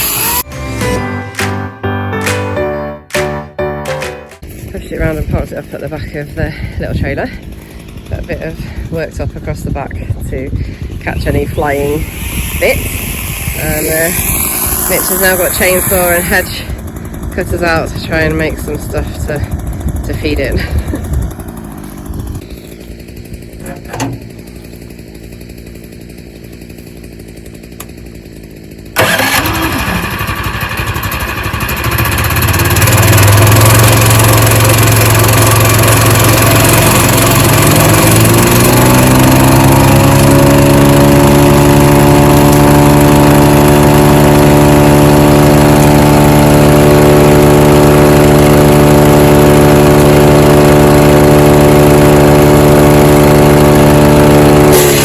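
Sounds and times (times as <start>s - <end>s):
shredder whining and droning: 0.0s - 1.5s, 4.4s - 55.0s
engine running quietly: 4.4s - 55.0s.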